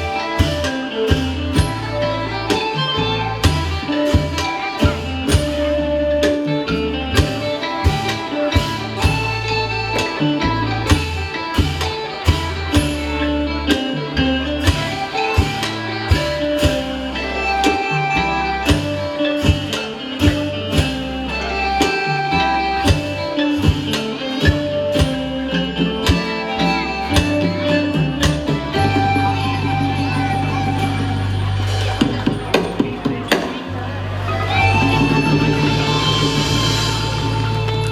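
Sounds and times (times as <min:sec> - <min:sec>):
band playing instrumental music: 0:00.0 - 0:37.9
steady drum beat: 0:00.0 - 0:37.9.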